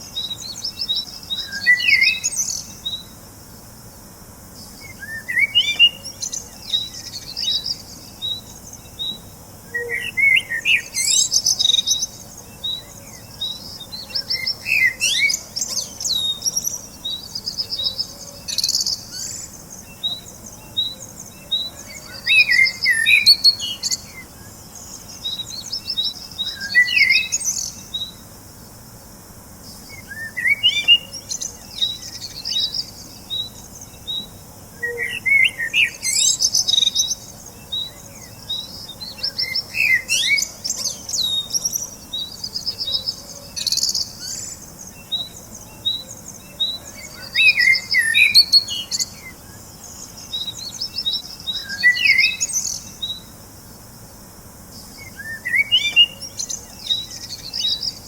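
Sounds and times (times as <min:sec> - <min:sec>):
birds chirping and singing: 0:00.0 - 0:03.2, 0:04.6 - 0:28.2, 0:29.7 - 0:53.3, 0:54.8 - 0:58.0
faint steady background hiss: 0:00.0 - 0:58.0.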